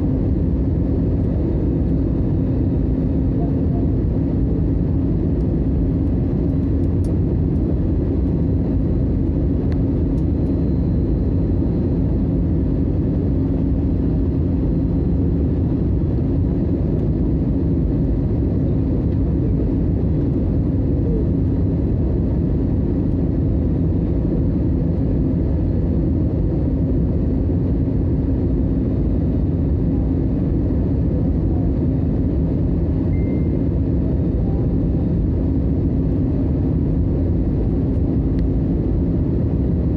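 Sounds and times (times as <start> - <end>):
airliner cabin rumble: 0.0 - 39.9
constant low hum: 0.0 - 39.9.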